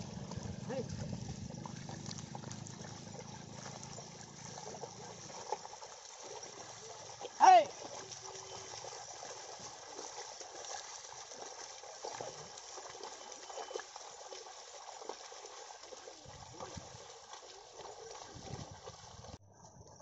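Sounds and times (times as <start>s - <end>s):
muddy water sloshing and splashing: 0.0s - 19.4s.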